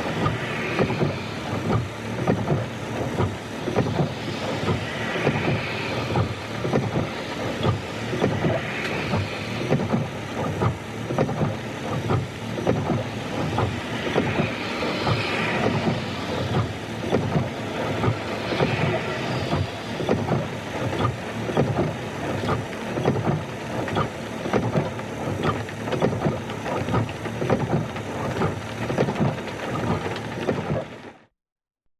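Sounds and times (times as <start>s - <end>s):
wiper blades swishing: 0.0s - 31.0s
rain pattering on windshield: 0.0s - 31.3s.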